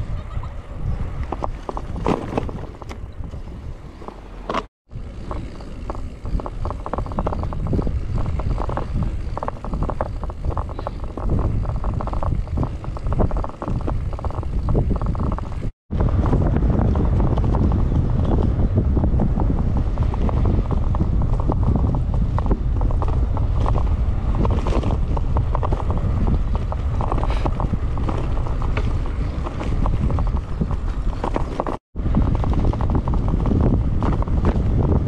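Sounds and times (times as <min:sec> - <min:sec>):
wind buffeting microphone: 0:00.0 - 0:04.2, 0:04.9 - 0:35.0
bicycle tyre rumble: 0:00.0 - 0:35.0
bike rattling on rough road: 0:00.0 - 0:35.0.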